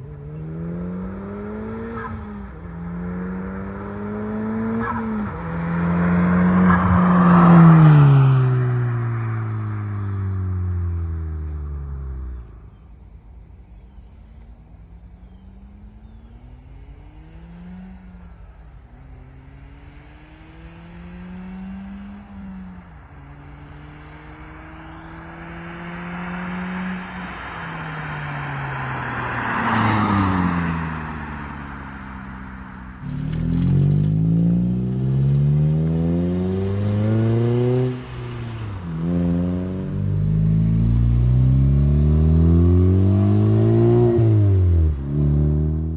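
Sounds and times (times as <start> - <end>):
car accelerating through gears: 0.1 - 12.4, 19.3 - 31.6, 33.0 - 45.9.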